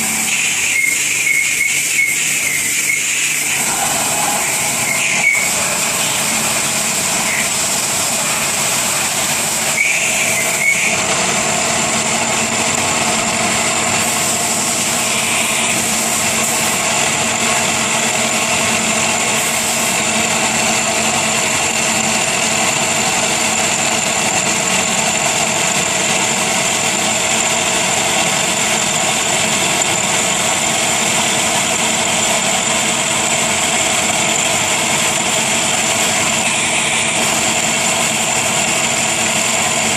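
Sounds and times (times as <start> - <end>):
machine tool humming and whining: 0.0 - 39.9.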